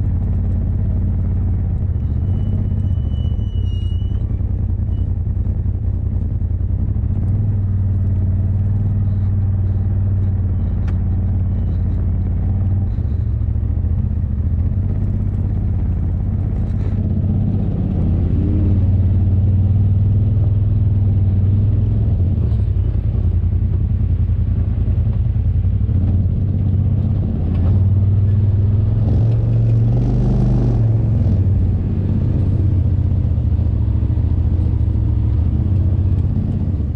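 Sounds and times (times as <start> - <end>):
engine drone: 0.0 - 36.9
tyre and chassis rattle: 0.0 - 36.9.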